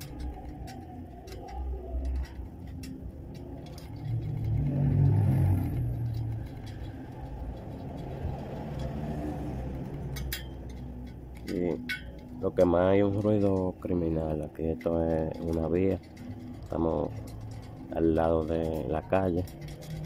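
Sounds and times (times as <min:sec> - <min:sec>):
metallic clicks of wire spokes: 0:00.0 - 0:20.0
vehicle engine rumble passing: 0:00.0 - 0:20.0.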